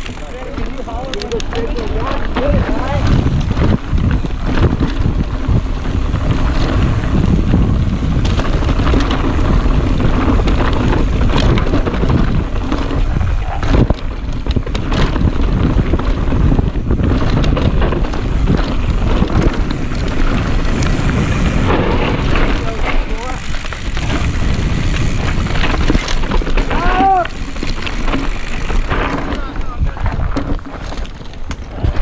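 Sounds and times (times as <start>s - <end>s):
bike knocking and rattling: 0.0s - 32.0s
tyres rumbling on dirt and rock: 0.0s - 32.0s
wind buffeting microphone: 0.0s - 32.0s.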